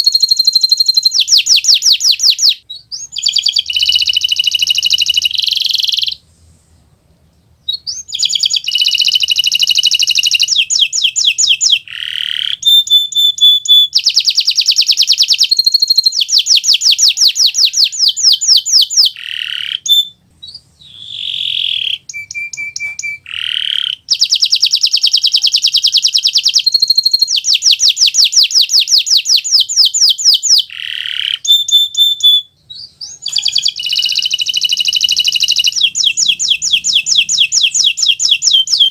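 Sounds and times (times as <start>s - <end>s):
canary singing trills: 0.0s - 6.2s, 7.4s - 38.9s.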